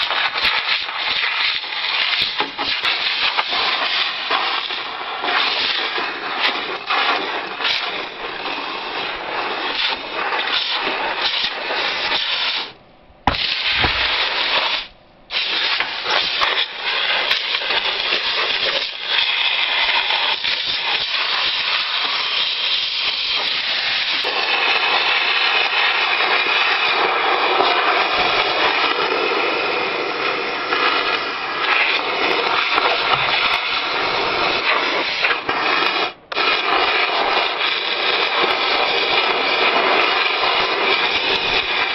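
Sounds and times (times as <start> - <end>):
compressed air blow gun hissing: 0.0 - 41.9.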